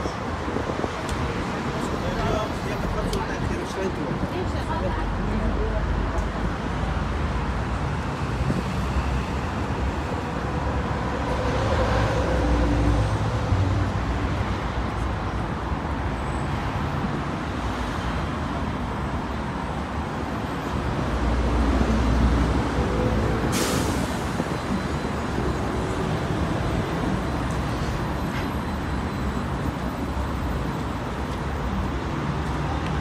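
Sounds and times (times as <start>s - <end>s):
city street traffic: 0.0s - 33.0s
passing vehicles rumbling: 0.0s - 33.0s.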